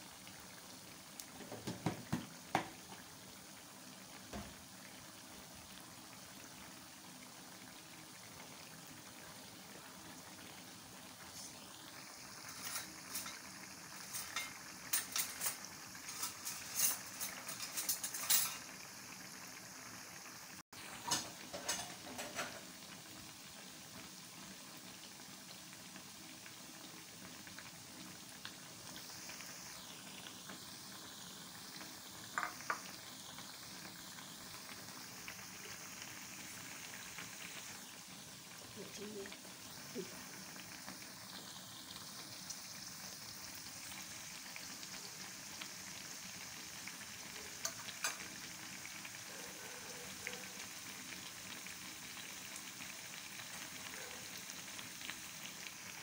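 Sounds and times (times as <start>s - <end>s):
fritters deep-frying in oil: 0.0s - 56.0s
oil crackling and popping: 0.1s - 49.3s, 50.1s - 56.0s.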